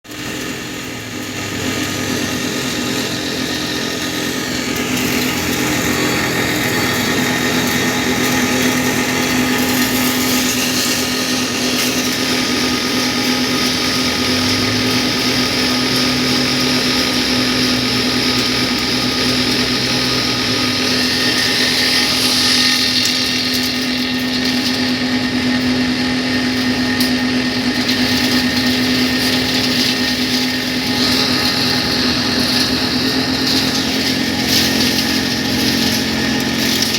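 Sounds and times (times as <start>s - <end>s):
machine engine humming: 0.1s - 36.9s
high hissing whine: 0.2s - 36.9s.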